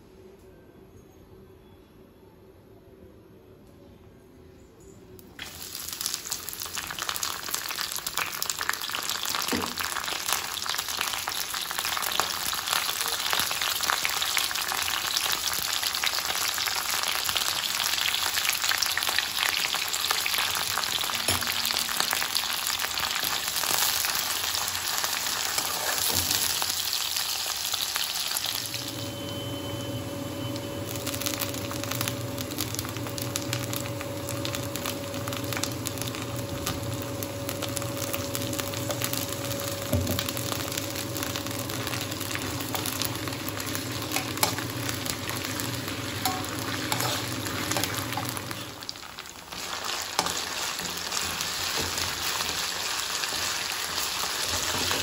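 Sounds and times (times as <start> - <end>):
vegetables sizzling in hot oil: 5.4 - 55.0.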